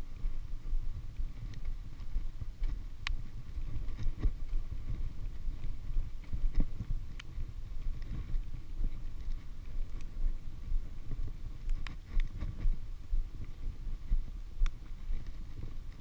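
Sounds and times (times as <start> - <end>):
bicycle road rumble: 0.0 - 16.0
wind buffeting microphone: 0.0 - 16.0.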